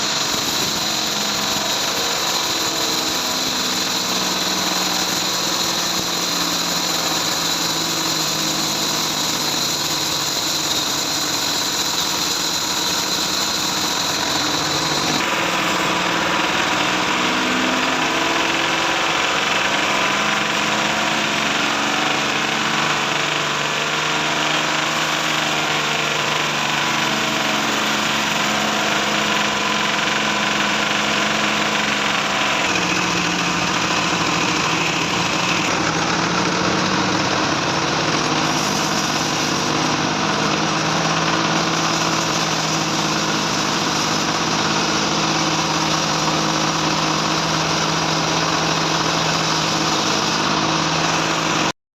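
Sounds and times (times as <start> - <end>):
bandsaw mill running: 0.0 - 51.7.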